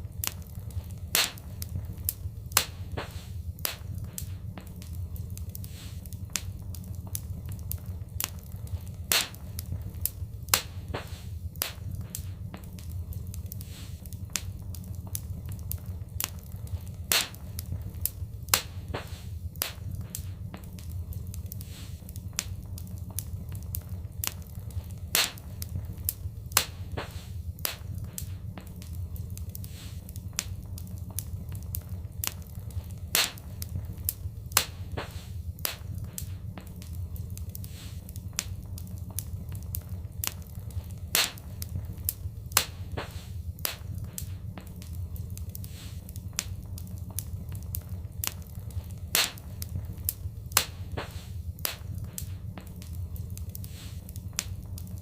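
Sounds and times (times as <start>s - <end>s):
fireplace fire crackling: 0.0s - 55.0s
low fire rumble: 0.0s - 55.0s.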